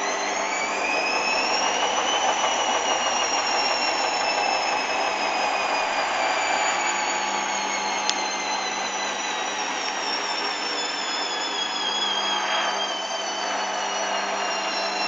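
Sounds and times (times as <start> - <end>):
washing machine motor whining: 0.0 - 15.0.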